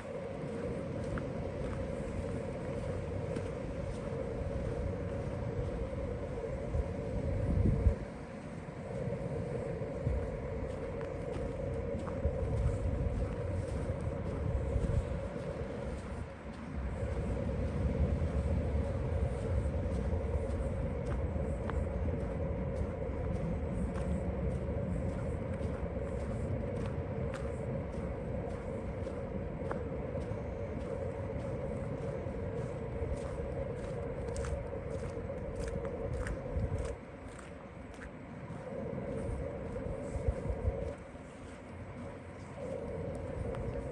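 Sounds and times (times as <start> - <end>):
motor running low rumble: 0.0 - 43.9.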